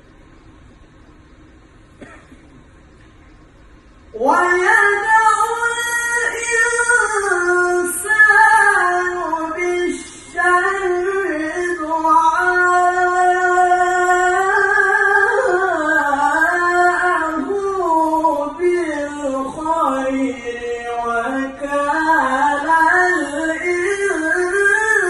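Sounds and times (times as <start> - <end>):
man reciting melodically: 4.2 - 25.0.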